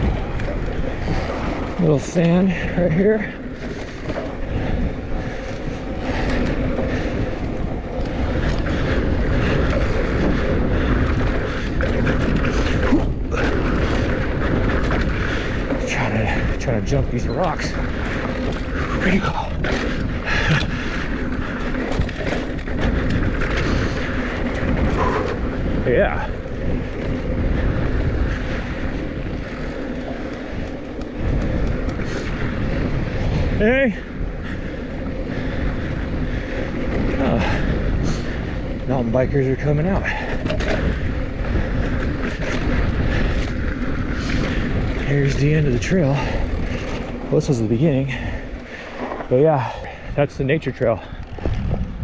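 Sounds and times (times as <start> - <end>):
bike rattling and clicking: 0.0 - 52.0
bike tyres rumbling over dirt: 0.0 - 52.0
wind on microphone: 0.0 - 52.0.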